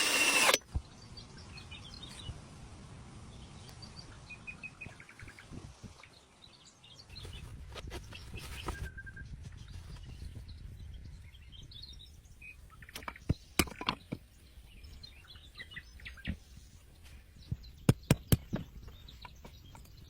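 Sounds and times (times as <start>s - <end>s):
low outdoor background: 0.0s - 20.0s
small birds chirping: 3.3s - 20.0s.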